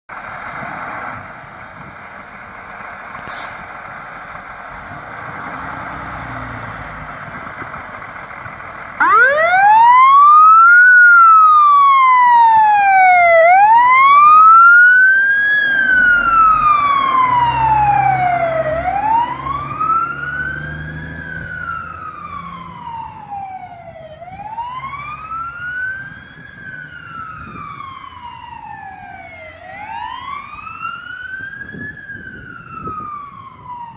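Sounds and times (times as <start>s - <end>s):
fire truck siren wailing: 0.1s - 33.9s.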